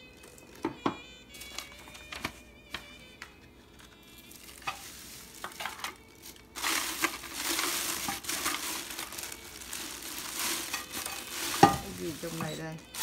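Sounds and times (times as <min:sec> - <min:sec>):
plastic wrapping crinkling: 0:00.0 - 0:02.9, 0:03.6 - 0:13.0.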